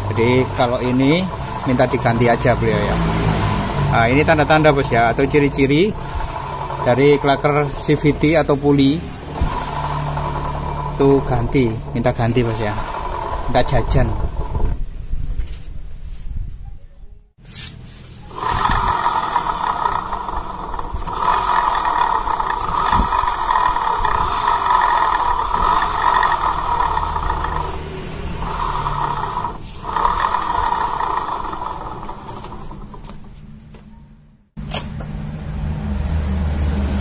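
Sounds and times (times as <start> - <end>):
scooter running with rough growl: 0.0 - 14.8, 18.3 - 33.3.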